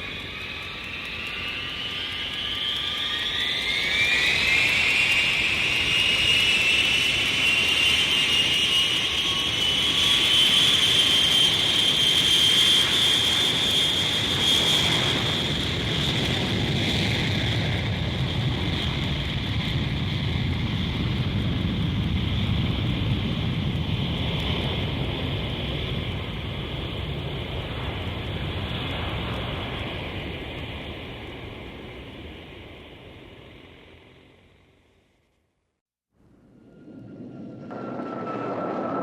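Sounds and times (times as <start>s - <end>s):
airplane engine whine and roar: 0.0s - 35.3s, 36.2s - 39.0s.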